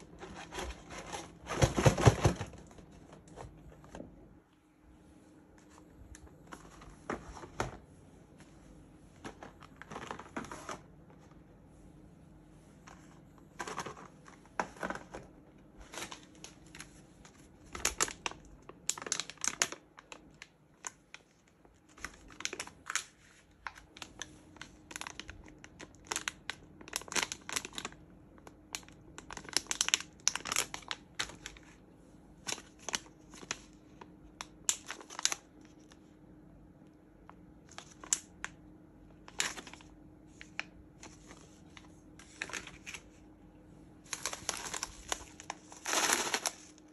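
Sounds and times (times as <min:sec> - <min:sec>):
packaging crinkling and rustling: 0:00.0 - 0:04.1, 0:05.6 - 0:07.9, 0:09.2 - 0:11.4, 0:12.8 - 0:31.8, 0:32.4 - 0:36.1, 0:37.2 - 0:43.2, 0:44.0 - 0:46.9.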